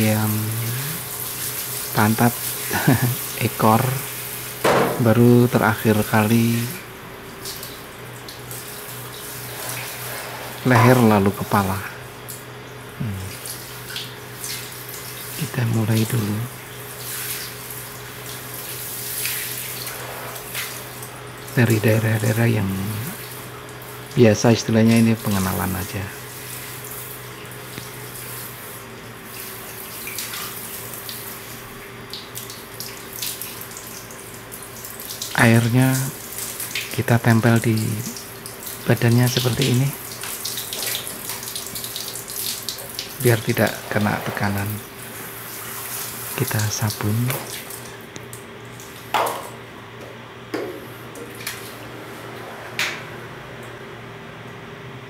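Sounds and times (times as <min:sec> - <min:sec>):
water from hose splashing: 0:00.0 - 0:24.2, 0:24.8 - 0:49.6
faint steady hum: 0:00.0 - 0:55.0.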